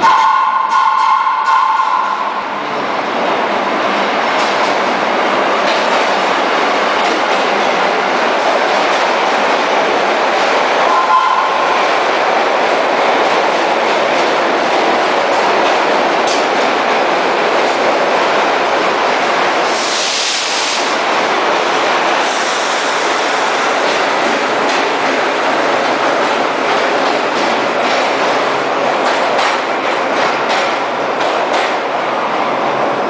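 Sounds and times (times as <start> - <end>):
subway train rumble and clatter: 0.0 - 33.0.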